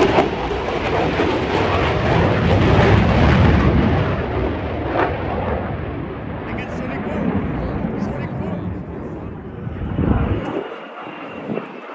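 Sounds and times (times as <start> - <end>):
jet engine rumble: 0.0 - 11.9.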